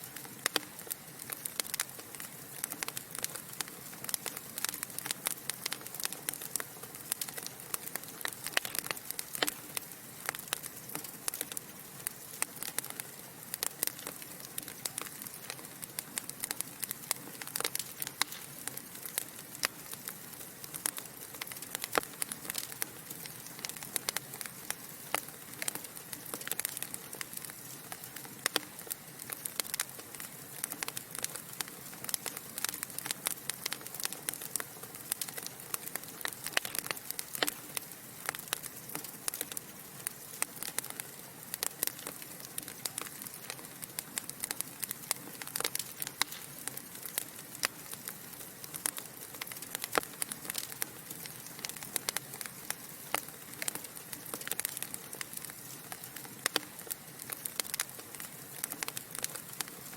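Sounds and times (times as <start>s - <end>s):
burning logs crackling and popping: 0.0s - 59.9s
soft fire hiss: 0.0s - 59.9s.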